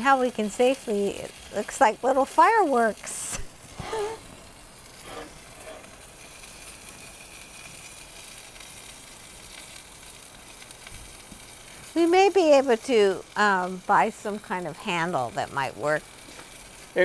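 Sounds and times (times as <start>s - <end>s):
steak sizzling in a pan: 0.0s - 17.0s.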